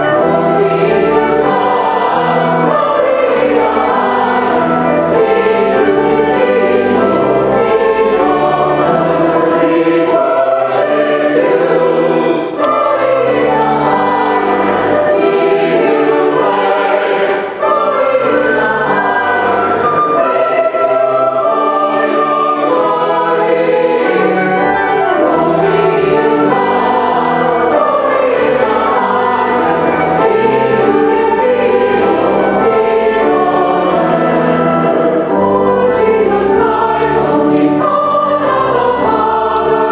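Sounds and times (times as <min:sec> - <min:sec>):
choir and congregation singing hymn: 0:00.0 - 0:39.9.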